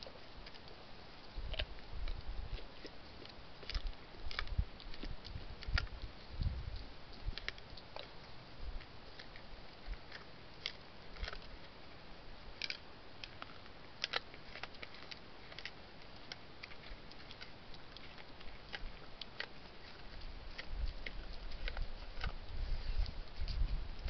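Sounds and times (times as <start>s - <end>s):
deer chewing apples: 0.0s - 24.0s
faint steady hiss: 0.0s - 24.0s.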